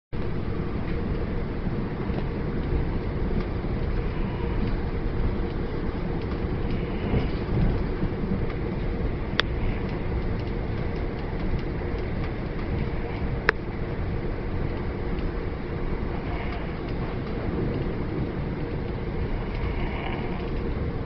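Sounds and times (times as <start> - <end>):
train carriage rumble: 0.1 - 21.0.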